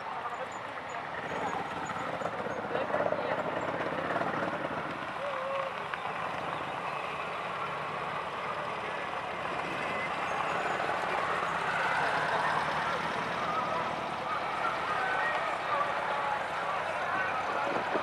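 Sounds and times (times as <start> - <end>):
motor trike engines running: 0.0 - 18.0
murmur of voices: 0.0 - 18.0.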